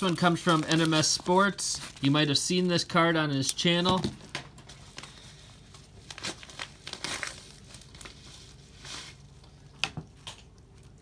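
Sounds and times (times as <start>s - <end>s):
tape crinkling: 0.0s - 2.7s, 3.3s - 11.0s.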